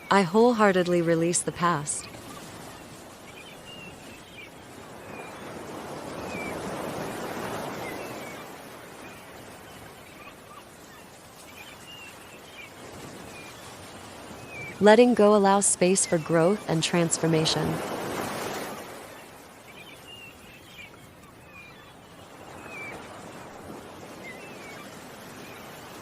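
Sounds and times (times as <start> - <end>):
ocean waves washing in: 0.0 - 26.0.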